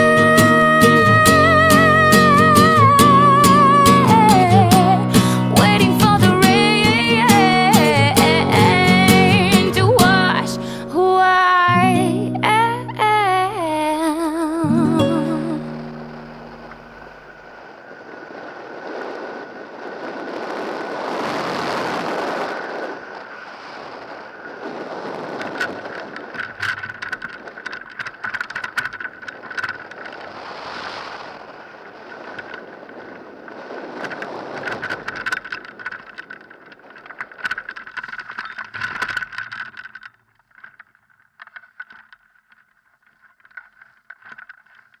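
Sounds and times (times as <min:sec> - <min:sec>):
wind buffeting microphone: 0:00.0 - 0:41.2
sharp crackles: 0:00.0 - 0:45.0.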